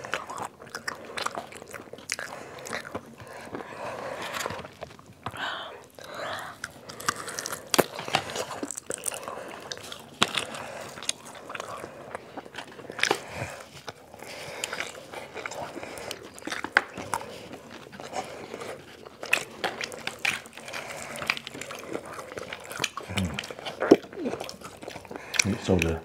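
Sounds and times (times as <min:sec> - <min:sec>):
crunching fried chicken: 0:00.0 - 0:05.2, 0:06.5 - 0:26.0
wet chewing: 0:00.0 - 0:26.0.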